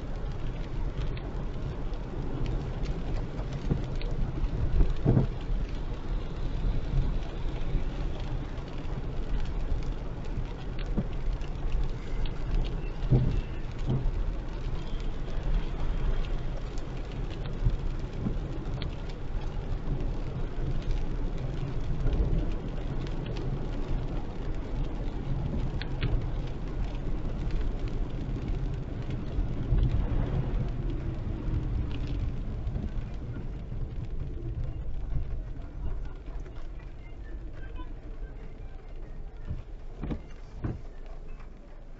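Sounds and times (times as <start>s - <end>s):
heavy rain on a car: 0.0s - 41.9s
tyre noise on wet road: 0.0s - 41.9s.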